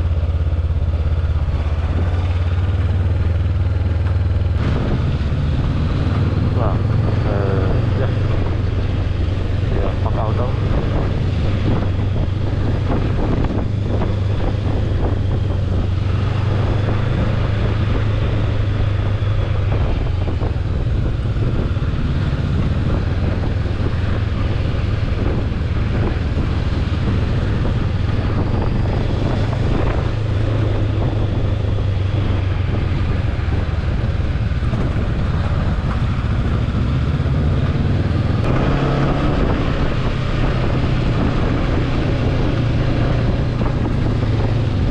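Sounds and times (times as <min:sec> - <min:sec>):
motorbike engine hum: 0:00.0 - 0:44.9
wind rushing over microphone: 0:00.0 - 0:44.9.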